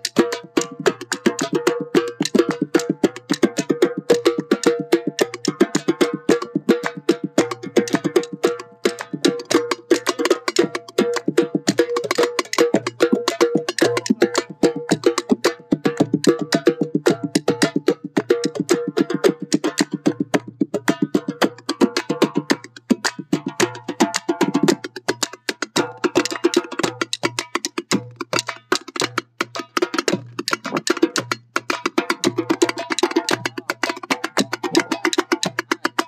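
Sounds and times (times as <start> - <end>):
fast hand drumming: 0.0 - 36.0.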